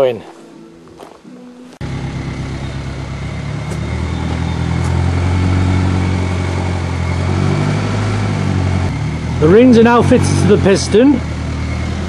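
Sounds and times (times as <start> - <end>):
engine humming steadily: 0.8 - 12.0.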